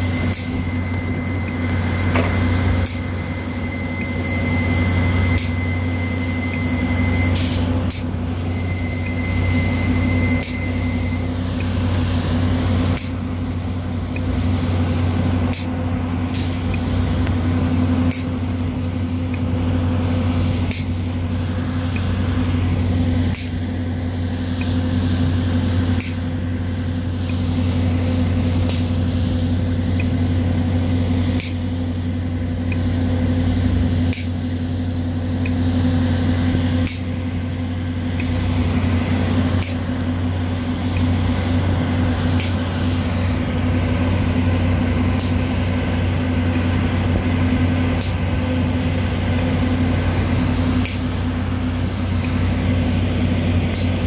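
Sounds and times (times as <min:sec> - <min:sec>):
excavator diesel engine and hydraulics: 0:00.0 - 0:54.0
high steady whine: 0:00.0 - 0:54.0.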